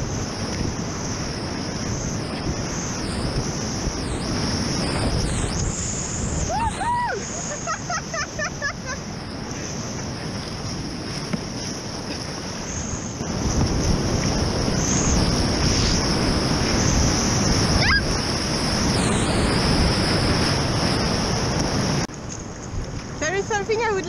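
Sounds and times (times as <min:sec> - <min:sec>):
whitewater rushing and splashing: 0:00.0 - 0:22.6
wind buffeting microphone: 0:00.0 - 0:24.0.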